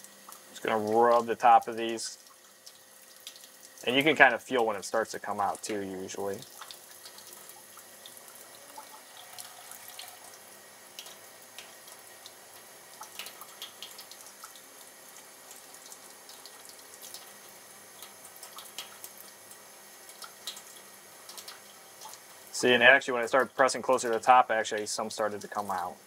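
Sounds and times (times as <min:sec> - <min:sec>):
tap water running: 0:00.0 - 0:26.0
water splashes and drips: 0:00.0 - 0:26.0.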